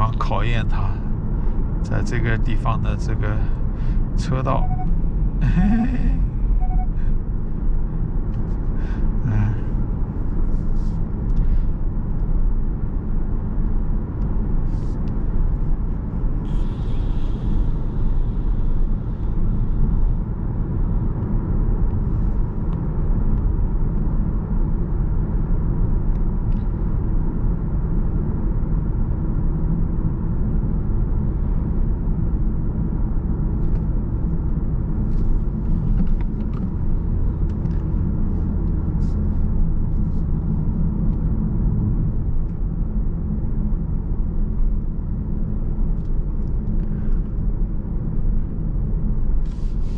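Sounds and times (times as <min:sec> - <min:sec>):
car driving rumble: 0:00.0 - 0:49.9.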